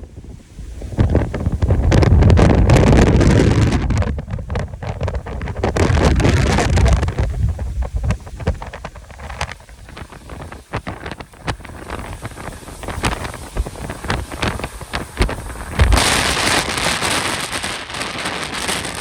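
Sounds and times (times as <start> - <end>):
wind gusts buffeting microphone: 0.0 - 19.0
short crackles: 1.0 - 19.0.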